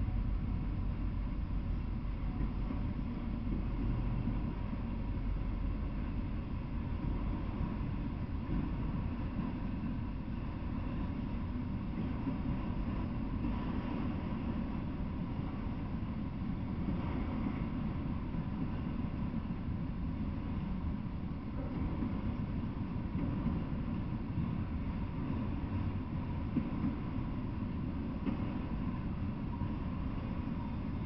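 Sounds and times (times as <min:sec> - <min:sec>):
freight train wheels rumbling on rails: 0:00.0 - 0:31.0.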